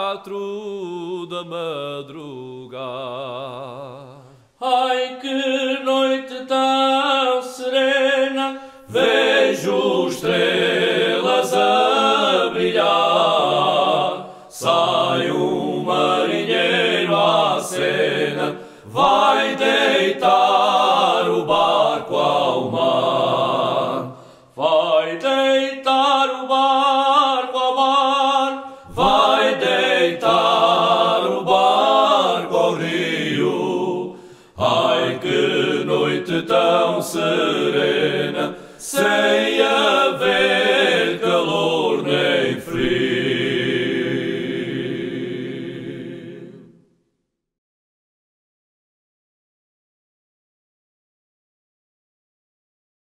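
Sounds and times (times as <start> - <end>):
men singing in harmony: 0.0 - 46.6.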